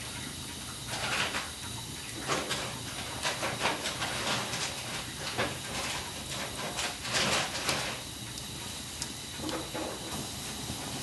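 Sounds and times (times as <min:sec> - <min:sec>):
fire hissing: 0:00.0 - 0:11.0.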